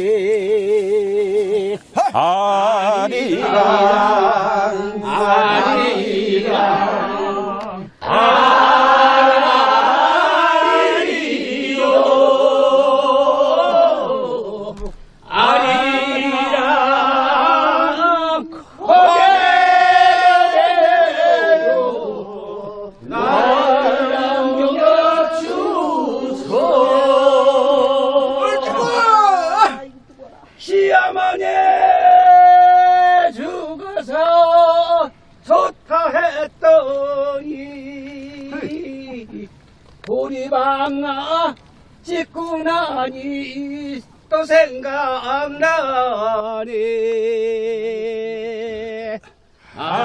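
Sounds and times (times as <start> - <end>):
group singing unaccompanied: 0.0 - 29.9, 30.6 - 50.0.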